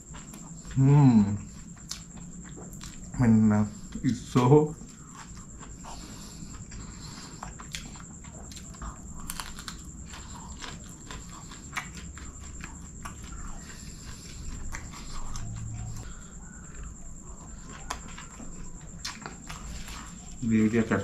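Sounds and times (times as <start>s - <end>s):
chewing fried rice: 0.0s - 21.0s.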